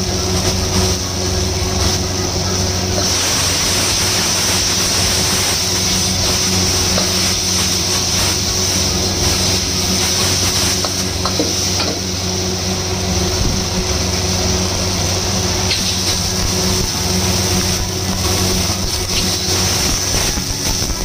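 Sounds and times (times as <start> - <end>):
meat sizzling in a wok: 0.0 - 21.0
steady low hum: 0.0 - 21.0.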